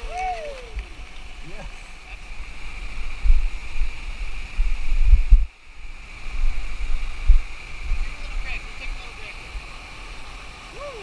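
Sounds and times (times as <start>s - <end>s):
wind buffeting microphone: 0.0s - 10.2s
river water rushing: 0.0s - 11.0s.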